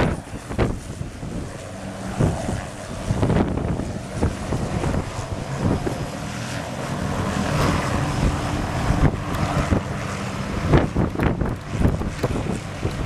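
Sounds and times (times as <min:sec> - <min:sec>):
helicopter hovering: 0:00.0 - 0:13.0
wind buffets thumping microphone: 0:00.0 - 0:13.0
wind noise on microphone: 0:00.0 - 0:13.0.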